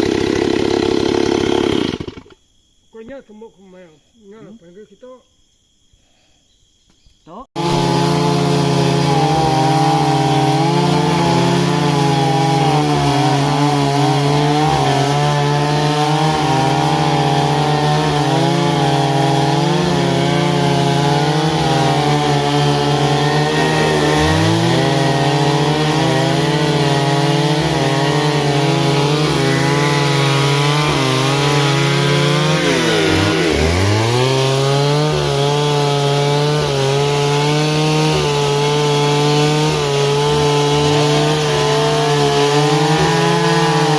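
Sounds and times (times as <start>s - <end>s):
chainsaw cutting wood: 0.0s - 2.4s, 7.6s - 43.9s.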